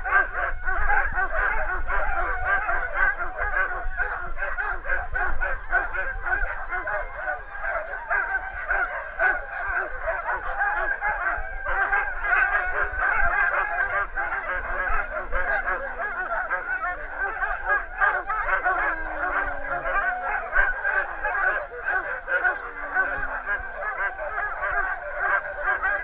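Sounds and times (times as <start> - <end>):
dogs barking and howling: 0.0 - 26.0.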